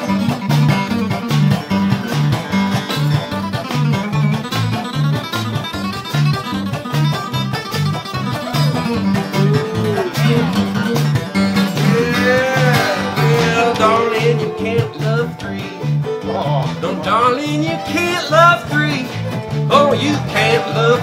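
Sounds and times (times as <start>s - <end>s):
bluegrass band playing: 0.0s - 21.0s
electric bass alternating notes: 0.0s - 21.0s
sliding lead guitar notes: 0.0s - 21.0s.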